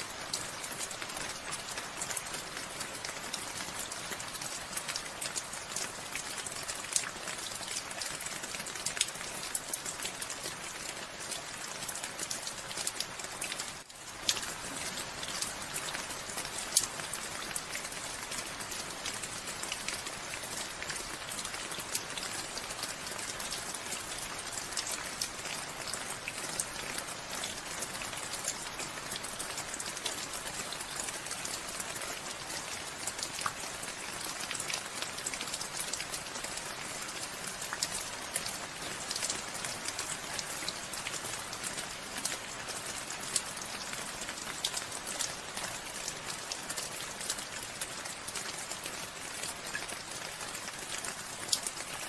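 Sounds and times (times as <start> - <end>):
rain falling: 0.0 - 52.0
raindrops ticking on a surface: 0.0 - 52.0.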